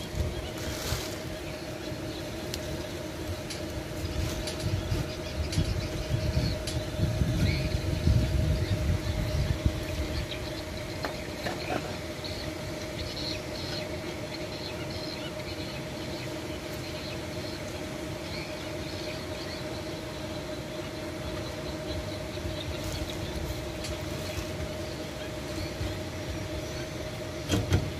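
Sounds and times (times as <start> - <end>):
machine hum: 0.0 - 27.9.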